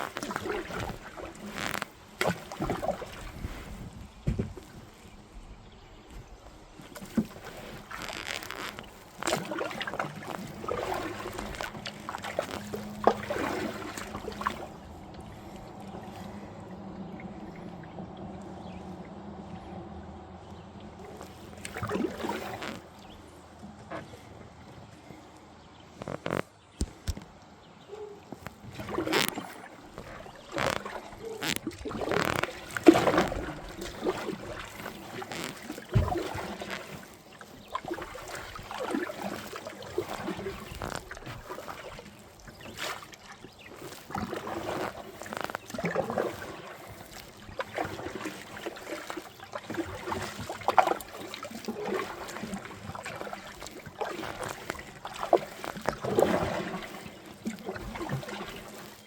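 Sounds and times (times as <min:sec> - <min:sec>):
kayak paddle splashing in water: 0:00.0 - 0:18.9, 0:20.5 - 0:24.3, 0:25.1 - 0:59.0.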